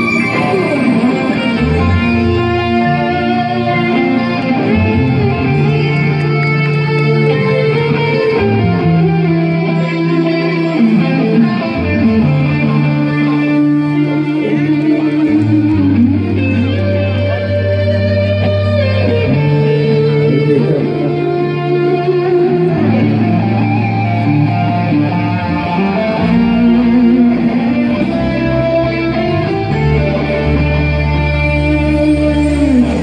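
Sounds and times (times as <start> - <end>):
electric guitars sustained chords: 0.0 - 33.0
long bass notes: 0.0 - 33.0.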